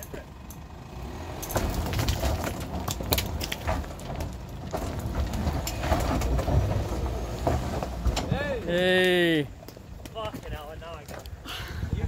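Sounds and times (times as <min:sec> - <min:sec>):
truck engine low rumble: 0:00.0 - 0:12.0
stones crunching under tyres: 0:01.2 - 0:11.4.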